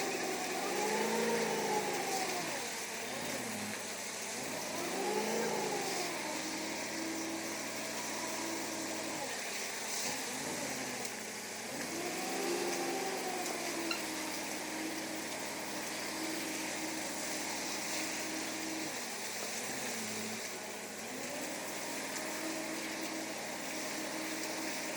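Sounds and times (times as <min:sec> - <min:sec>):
constant hiss: 0:00.0 - 0:24.9
machinery engine running: 0:00.0 - 0:24.9.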